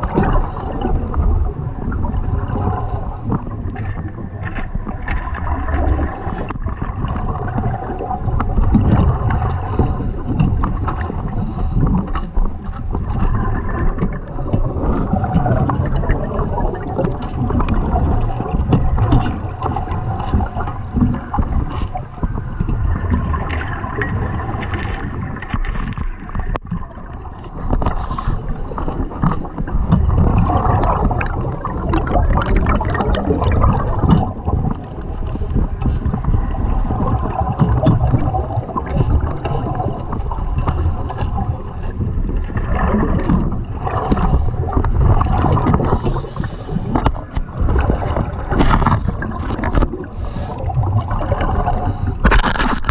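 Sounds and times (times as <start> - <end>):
underwater diver breathing bubbles: 0.0 - 52.9
sharp underwater clicks: 1.5 - 52.9.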